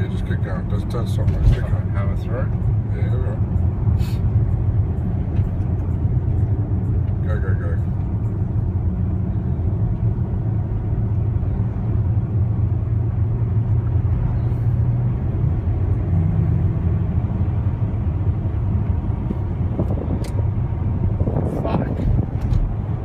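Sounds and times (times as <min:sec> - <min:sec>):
vehicle engine and tyre rumble: 0:00.0 - 0:23.0.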